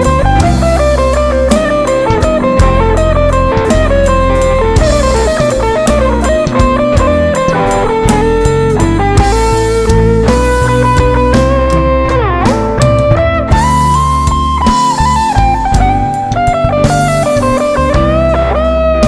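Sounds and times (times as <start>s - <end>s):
drum kit: 0.0s - 19.0s
guitar melody: 0.0s - 19.0s.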